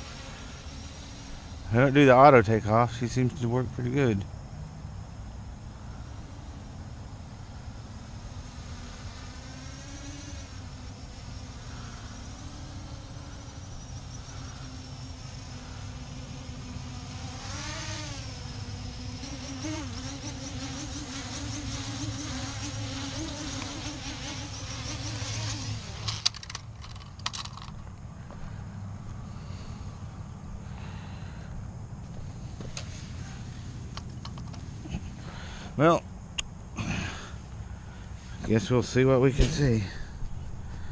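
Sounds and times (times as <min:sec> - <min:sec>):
drone propellers buzzing: 0:00.0 - 0:40.9.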